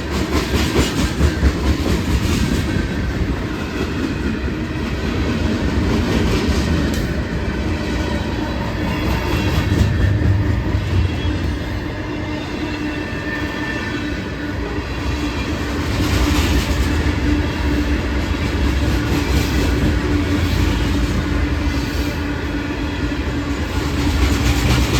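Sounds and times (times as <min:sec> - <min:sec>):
train wheels clattering over rails: 0:00.0 - 0:12.0, 0:15.0 - 0:24.9.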